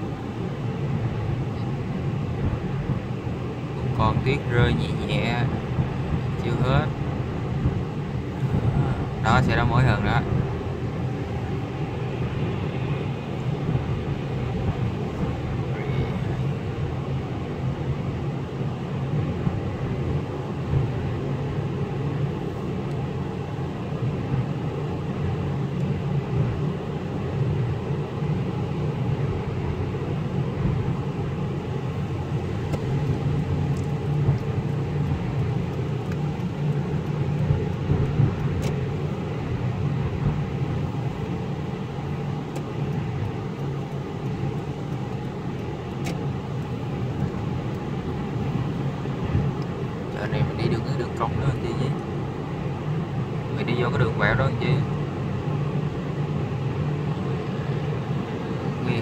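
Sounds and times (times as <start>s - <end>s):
car engine and tyres on highway: 0.0s - 59.0s.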